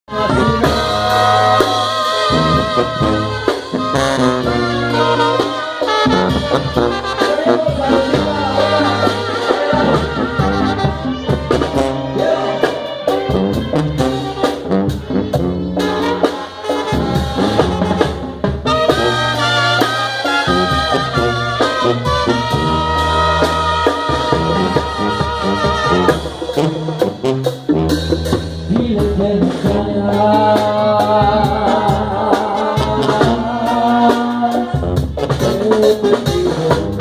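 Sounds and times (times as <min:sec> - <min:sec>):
brass band melody: 0:00.0 - 0:37.0.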